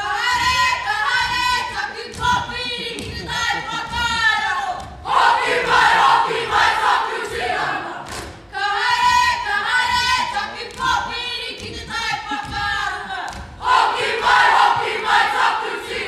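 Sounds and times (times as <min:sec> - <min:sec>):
group singing: 0:00.0 - 0:16.0.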